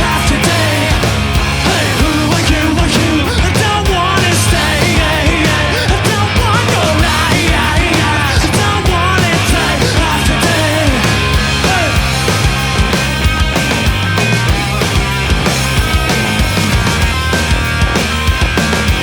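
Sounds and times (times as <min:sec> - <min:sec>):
loud rock band music: 0:00.0 - 0:19.0.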